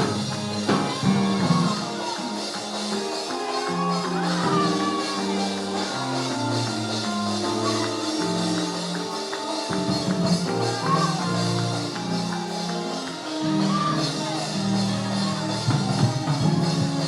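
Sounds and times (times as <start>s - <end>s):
church praise music: 0.0s - 17.0s
light percussion: 0.0s - 17.0s
organ chords: 0.0s - 17.0s.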